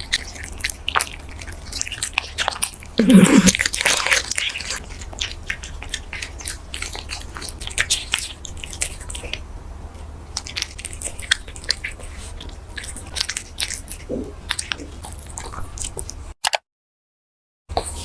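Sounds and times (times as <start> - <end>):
cat crunching food: 0.0 - 9.4, 10.3 - 16.2.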